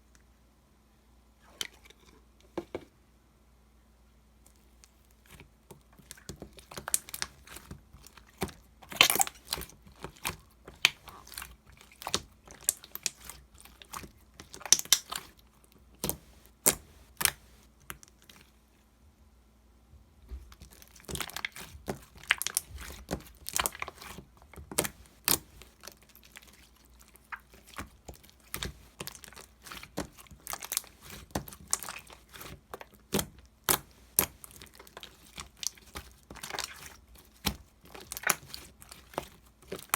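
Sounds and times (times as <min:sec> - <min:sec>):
slime clicking and crackling: 0:05.3 - 0:18.4, 0:20.5 - 0:39.9.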